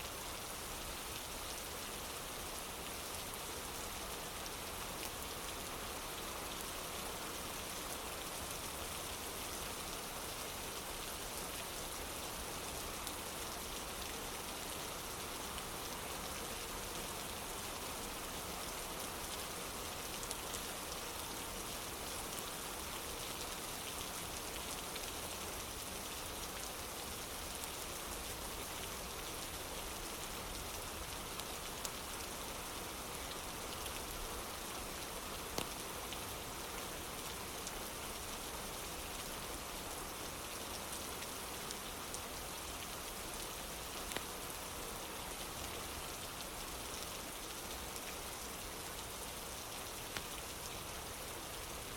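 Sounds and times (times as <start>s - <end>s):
rain on wooden porch: 0.0s - 51.9s.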